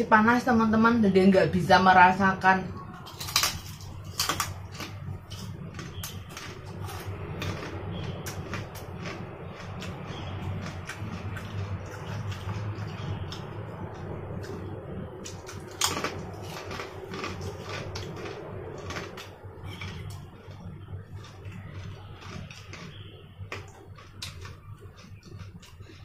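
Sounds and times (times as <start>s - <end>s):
steady low hum: 0.0s - 26.0s
person chewing: 3.0s - 26.0s.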